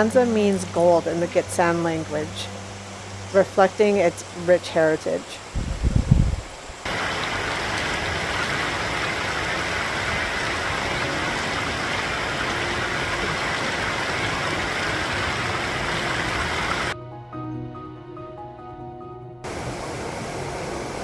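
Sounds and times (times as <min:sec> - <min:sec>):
creek water rushing: 0:00.0 - 0:17.0, 0:19.5 - 0:21.0.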